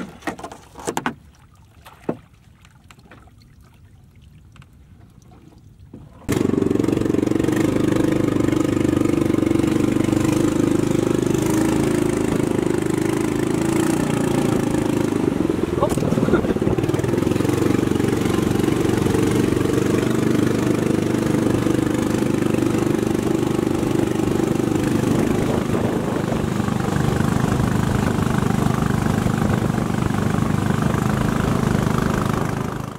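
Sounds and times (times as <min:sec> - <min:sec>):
boat engine running: 0:05.9 - 0:32.9.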